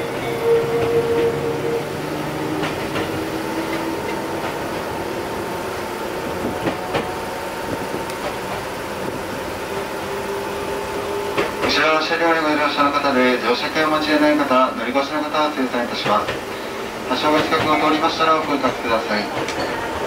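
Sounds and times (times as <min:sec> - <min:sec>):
electric train running on track: 0:00.0 - 0:20.0.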